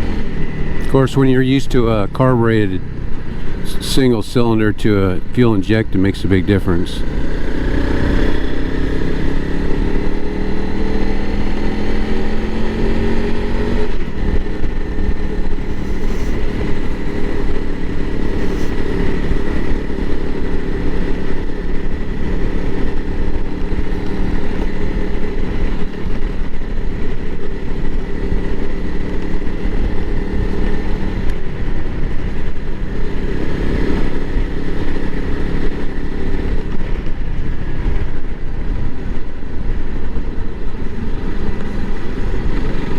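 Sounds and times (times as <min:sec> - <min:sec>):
motorcycle engine under way: 0:00.0 - 0:42.9
wind and road noise: 0:00.0 - 0:42.9.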